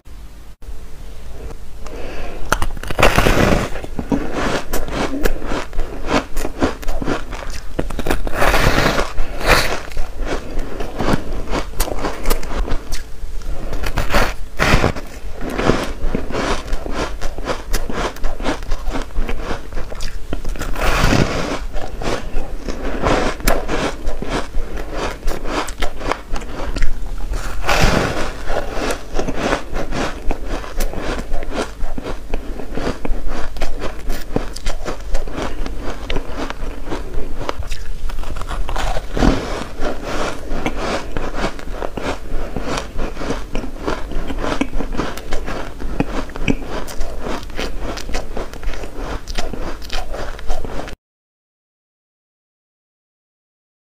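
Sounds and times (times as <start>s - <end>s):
crunching ice: 2.5s - 13.1s, 13.7s - 51.0s.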